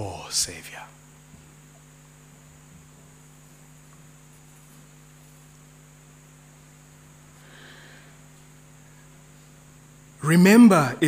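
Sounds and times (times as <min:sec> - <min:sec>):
electrical hum: 0:00.0 - 0:11.0
faint hiss: 0:00.0 - 0:11.0.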